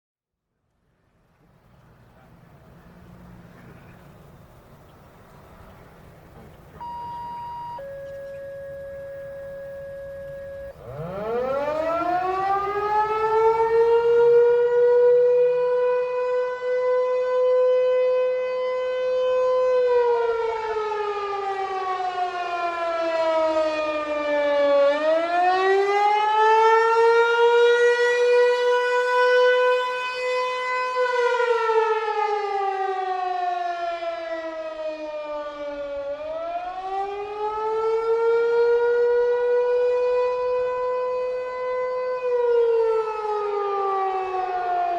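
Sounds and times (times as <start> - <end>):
warning siren wailing: 6.4 - 44.9.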